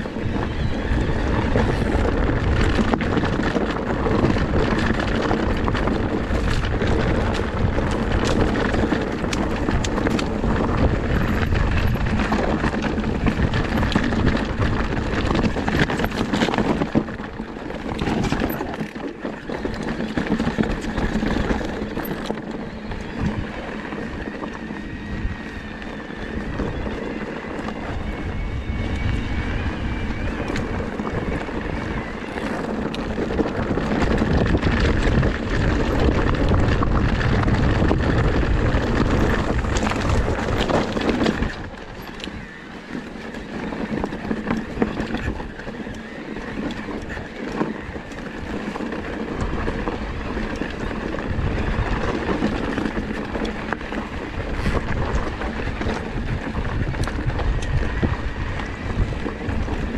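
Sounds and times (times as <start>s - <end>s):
mountain bike rattle and tyre noise: 0.0s - 59.9s
wind buffeting microphone: 0.0s - 59.9s.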